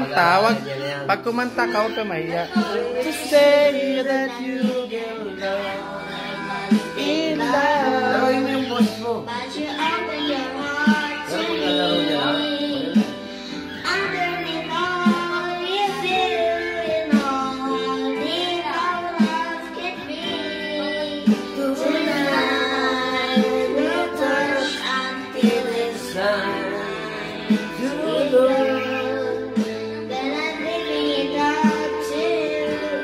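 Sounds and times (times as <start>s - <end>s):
backing track with beat: 0.0s - 33.0s
girl singing into microphone: 2.4s - 33.0s.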